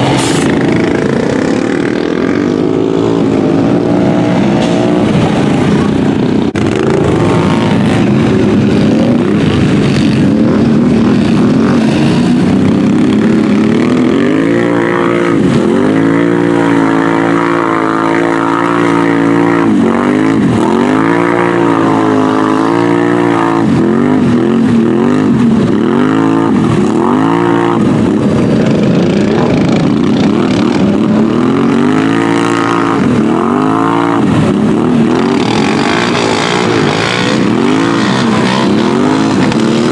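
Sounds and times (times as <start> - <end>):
atv engine revving in mud: 0.0 - 39.9.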